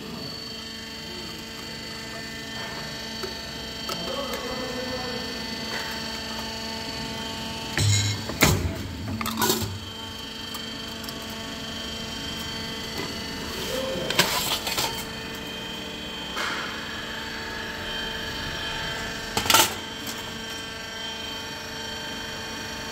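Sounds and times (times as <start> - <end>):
die-cutting press humming: 0.4 - 22.8.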